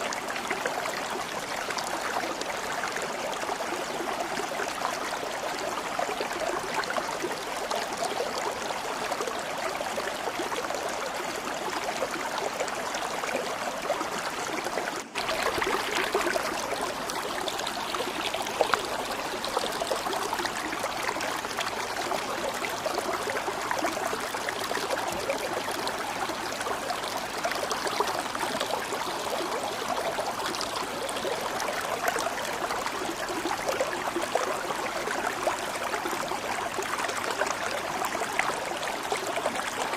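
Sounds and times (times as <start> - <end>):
water rushing and trickling: 0.0 - 39.9.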